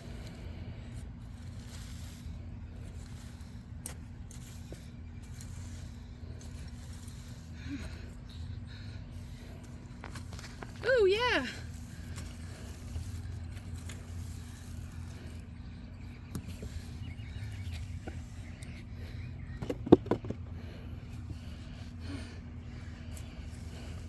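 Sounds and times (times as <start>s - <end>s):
digging in soil by hand: 0.0s - 24.0s
steady low rumble: 0.0s - 24.0s.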